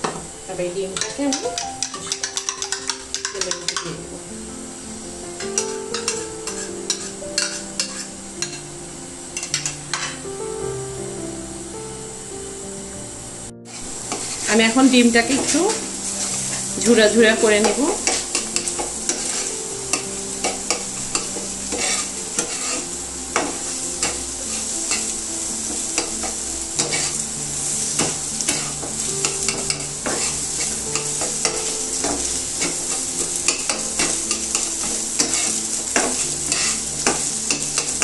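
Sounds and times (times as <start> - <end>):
eggs sizzling in oil: 0.0 - 38.0
utensil scraping a pan: 1.0 - 4.0, 4.9 - 8.7, 9.4 - 10.2, 13.7 - 38.0.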